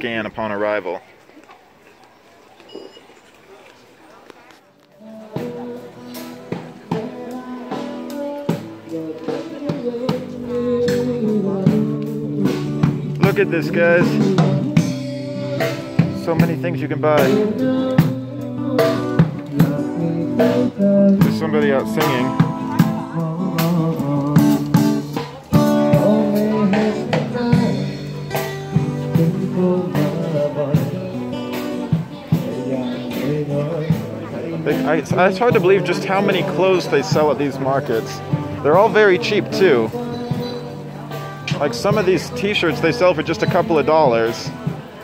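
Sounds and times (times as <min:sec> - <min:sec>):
acoustic guitar: 0:04.4 - 0:45.0
man singing: 0:05.0 - 0:45.0.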